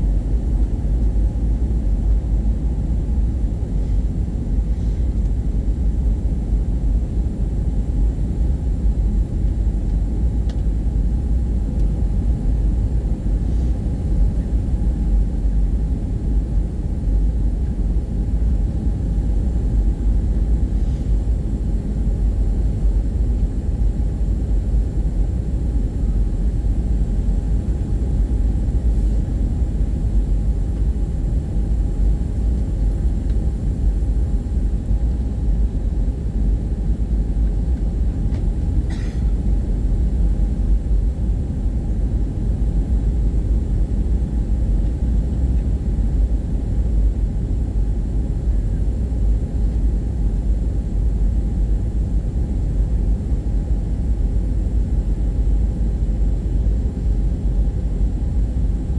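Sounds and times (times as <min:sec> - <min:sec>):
airplane cabin rumble: 0:00.0 - 0:58.9.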